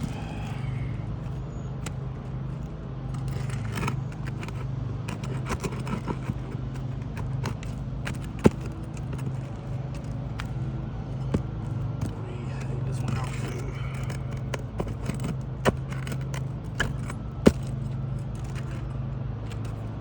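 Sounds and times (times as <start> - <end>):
tools scraping on shingles: 0.0 - 20.0.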